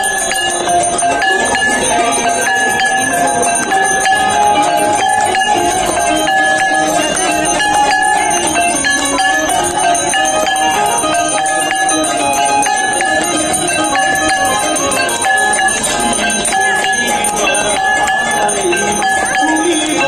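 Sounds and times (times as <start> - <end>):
brass bells ringing: 0.0 - 20.0.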